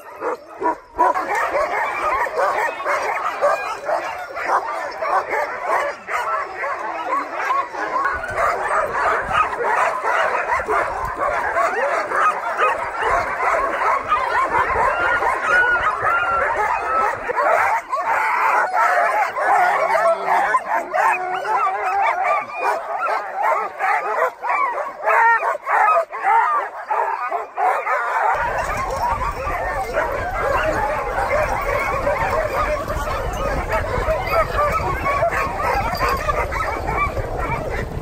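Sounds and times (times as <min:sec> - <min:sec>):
sled dogs barking and yipping: 0:00.0 - 0:38.0.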